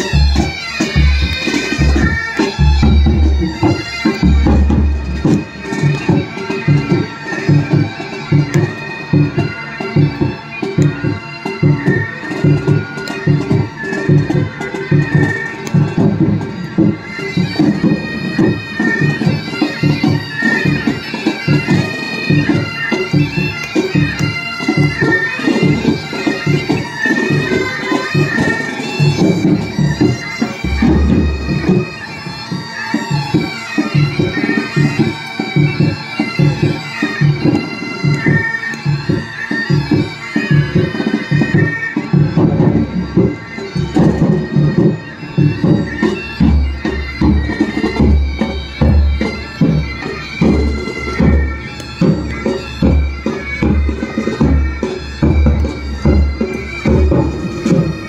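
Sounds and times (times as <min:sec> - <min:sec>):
bagpipes playing: 0:00.0 - 0:58.0
side drums: 0:00.0 - 0:58.0.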